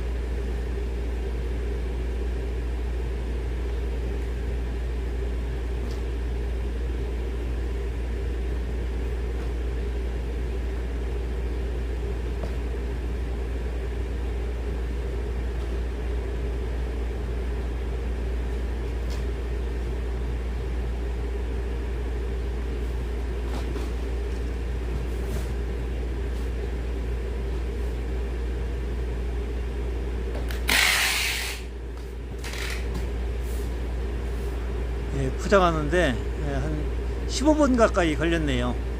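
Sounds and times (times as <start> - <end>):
low machine drone: 0.0 - 37.3.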